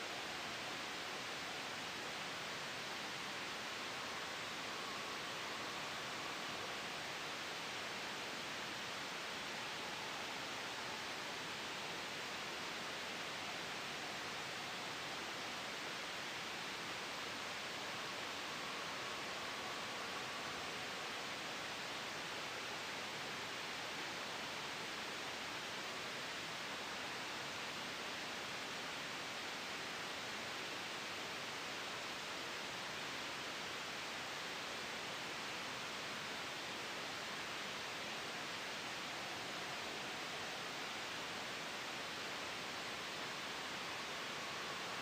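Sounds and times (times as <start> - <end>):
gentle wind: 0.0 - 45.0
soft white noise hiss: 0.0 - 45.0.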